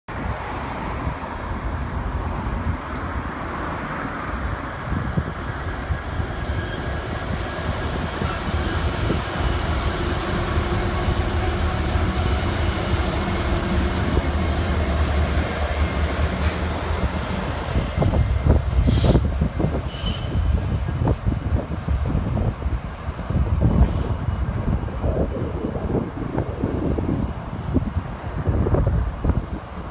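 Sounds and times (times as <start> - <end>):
diesel engines droning: 0.2 - 29.9.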